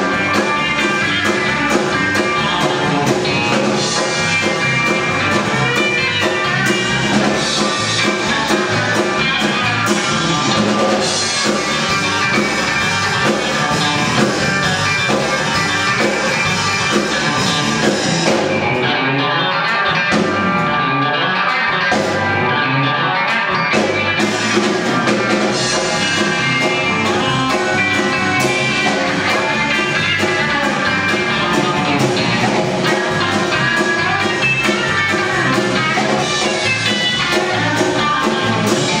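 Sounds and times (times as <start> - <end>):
drum kit: 0.0 - 19.1, 19.8 - 22.6, 23.2 - 39.0
bass guitar: 0.0 - 39.0
electric guitar: 0.0 - 39.0.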